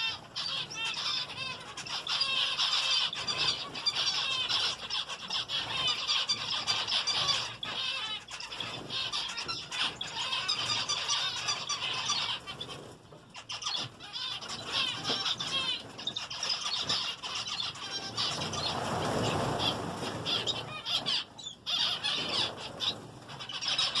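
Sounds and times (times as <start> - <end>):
finches chirping: 0.0 - 24.0.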